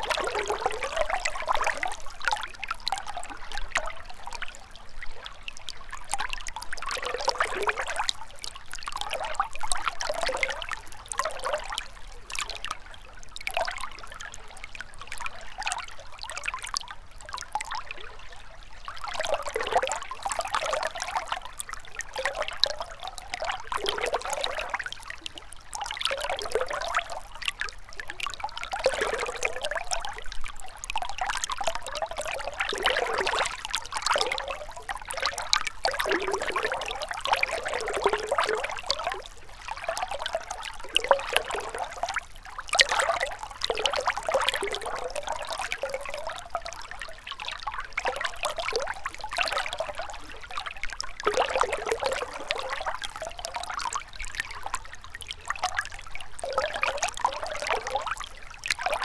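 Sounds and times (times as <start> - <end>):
river water trickling over stones: 0.0 - 59.0.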